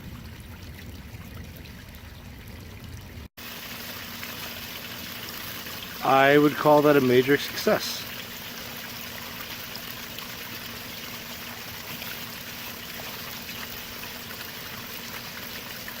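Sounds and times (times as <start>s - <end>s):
pond waterfall running: 0.0s - 16.0s.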